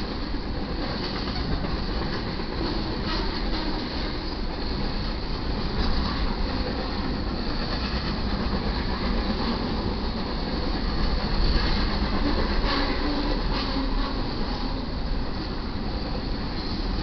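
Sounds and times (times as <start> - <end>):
freight train wheels on rail: 0.0 - 17.0.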